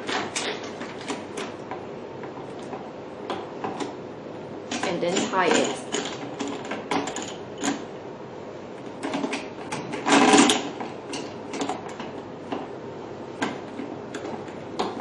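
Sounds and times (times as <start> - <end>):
clicks and knocks of hard parts: 0.0 - 4.0, 4.7 - 7.9, 8.8 - 12.7, 13.4 - 15.0.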